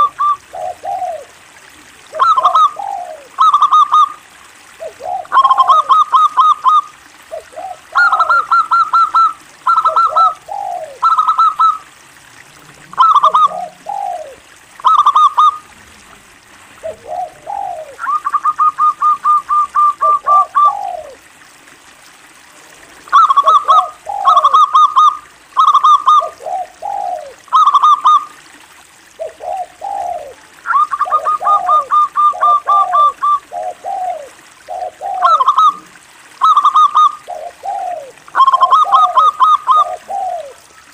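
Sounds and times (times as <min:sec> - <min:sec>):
dove cooing: 0:00.0 - 0:01.4, 0:02.1 - 0:12.0, 0:12.9 - 0:15.7, 0:16.8 - 0:21.3, 0:22.7 - 0:28.4, 0:29.1 - 0:40.7.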